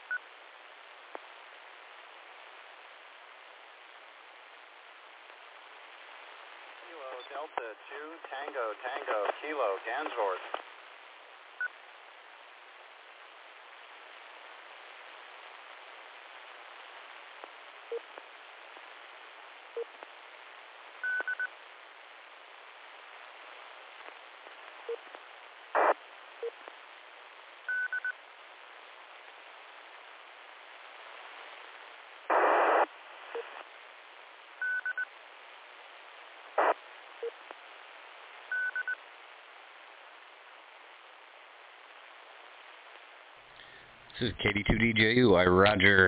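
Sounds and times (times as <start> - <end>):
radio static hiss: 0.0 - 46.0.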